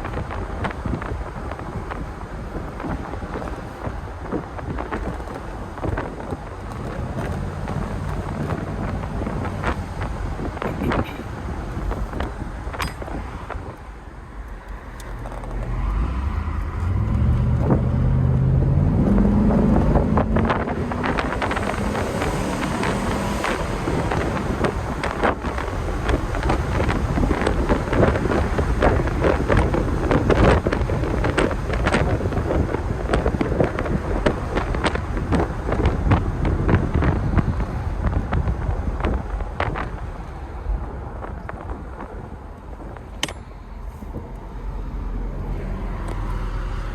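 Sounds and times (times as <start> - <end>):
car engine pulling away: 0.0 - 12.7, 13.6 - 43.0, 43.7 - 46.9
road and wind noise: 0.0 - 46.9.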